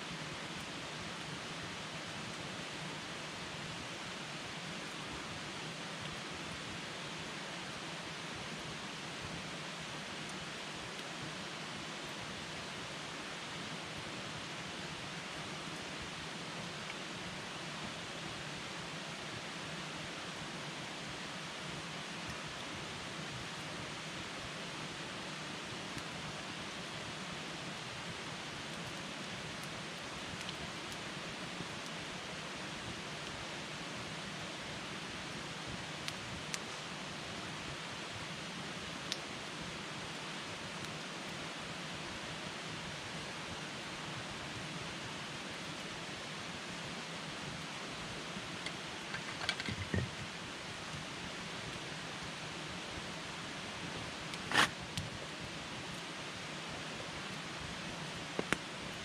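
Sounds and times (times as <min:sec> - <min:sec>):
campfire hissing: 0:00.0 - 0:59.0
faint fire crackles: 0:00.0 - 0:59.0.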